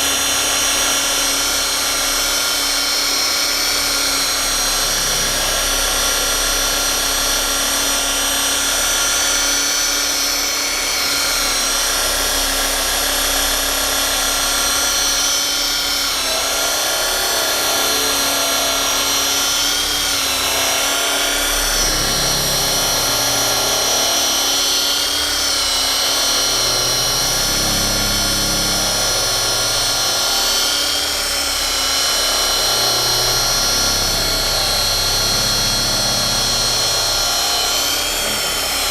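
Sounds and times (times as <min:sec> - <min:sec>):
rotary polisher whining: 0:00.0 - 0:38.9.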